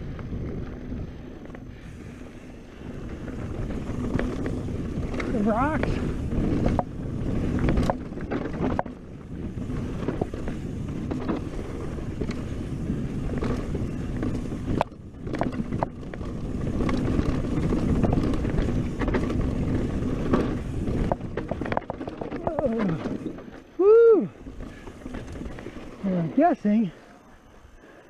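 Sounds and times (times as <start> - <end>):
wind buffeting microphone: 0.0 - 27.8
bike clacking over rough ground: 0.0 - 28.0.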